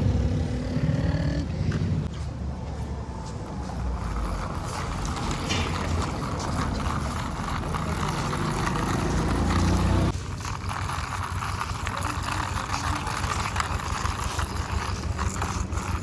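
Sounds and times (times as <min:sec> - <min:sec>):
tractor diesel engine under load: 0:00.0 - 0:02.1, 0:03.0 - 0:16.0.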